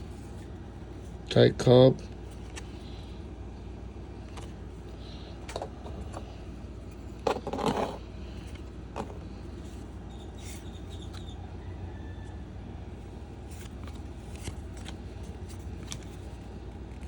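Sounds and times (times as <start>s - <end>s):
steady low hum: 0.0s - 17.0s
trading cards clicking and rustling: 0.1s - 3.2s, 4.2s - 11.4s, 13.1s - 17.0s.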